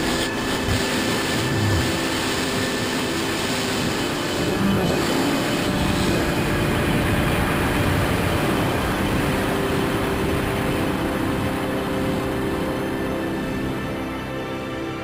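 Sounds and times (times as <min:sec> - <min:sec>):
faint sustained tones: 0:00.0 - 0:15.0.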